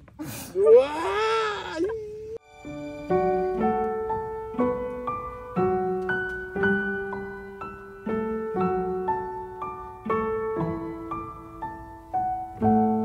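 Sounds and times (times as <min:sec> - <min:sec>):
gentle piano music: 0:02.4 - 0:13.0.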